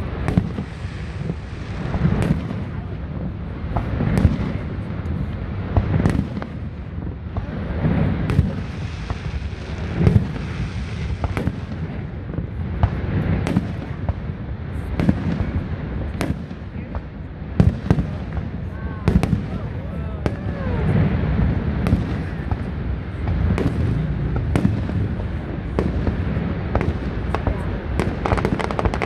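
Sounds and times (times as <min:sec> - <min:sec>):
fireworks bursting with rumble: 0:00.0 - 0:29.0.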